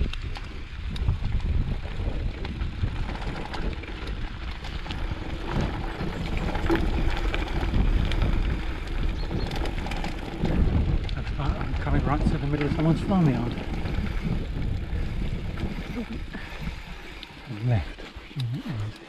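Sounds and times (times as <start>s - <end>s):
bike tyres rumbling on ground: 0.0s - 18.0s
bike clicks and rattles: 0.0s - 19.0s
wind on microphone: 0.0s - 19.0s.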